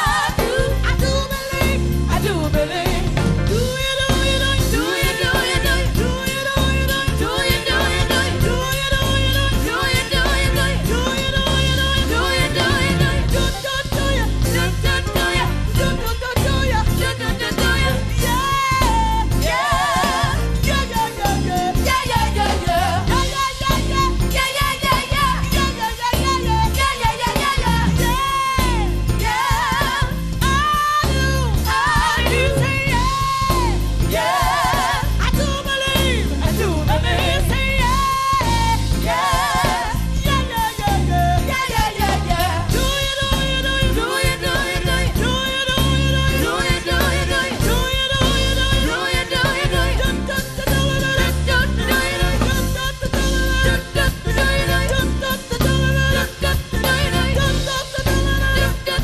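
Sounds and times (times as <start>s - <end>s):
band with bass and drums: 0.0s - 59.0s
woman singing with vibrato: 0.0s - 59.0s.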